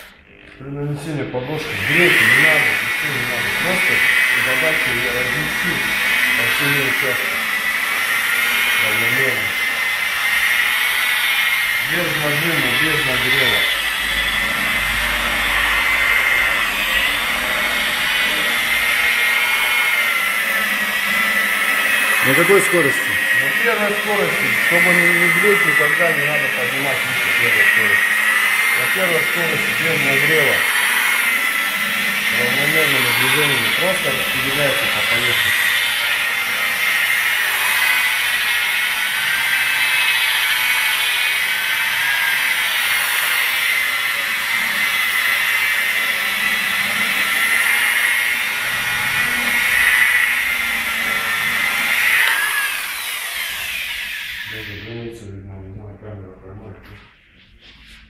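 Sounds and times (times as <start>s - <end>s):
electric polisher motor whine: 0.0s - 0.6s, 1.3s - 55.0s.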